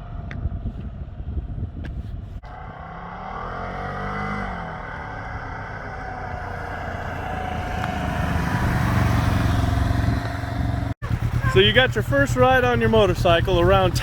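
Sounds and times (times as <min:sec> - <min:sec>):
vehicle engine accelerating: 0:02.4 - 0:14.0.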